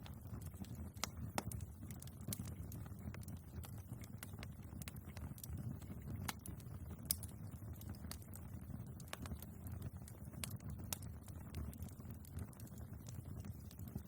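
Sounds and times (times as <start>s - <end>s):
fire flames rumbling: 0.0s - 14.0s
logs crackling and popping: 0.0s - 14.0s.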